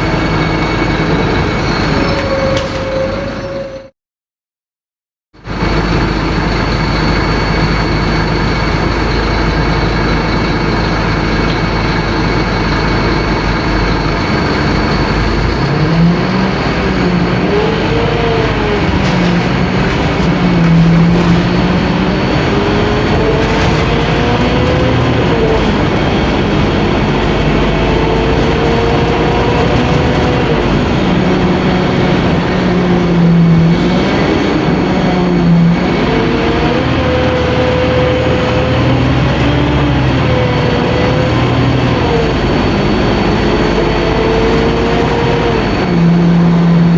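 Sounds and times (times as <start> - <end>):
bus diesel engine under load: 0.0 - 3.9, 5.3 - 46.9.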